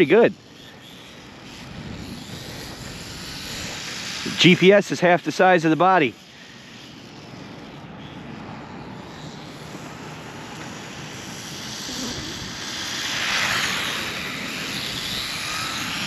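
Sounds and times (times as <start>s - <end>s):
electric motor whine: 0.0s - 5.4s, 6.1s - 16.0s.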